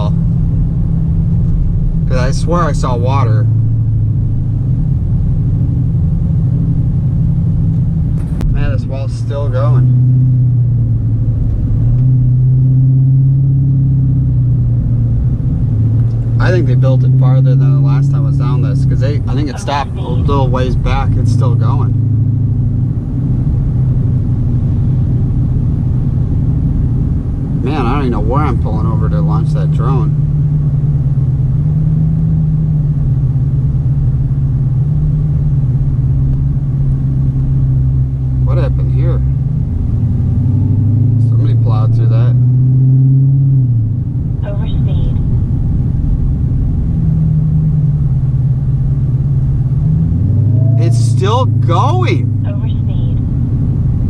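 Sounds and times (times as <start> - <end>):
car engine low drone: 0.0 - 54.0
road rumble: 0.0 - 54.0.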